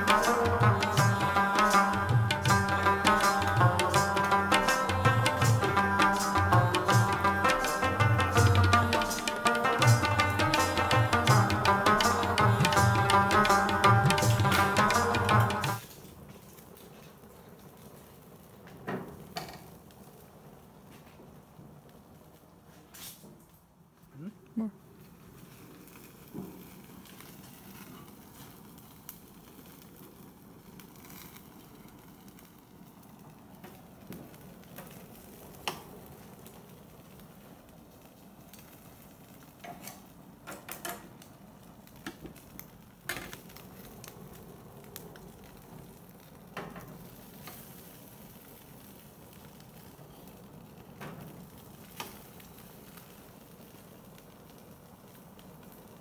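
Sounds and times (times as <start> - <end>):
fish sizzling on a grill: 0.0 - 23.3, 25.0 - 56.0.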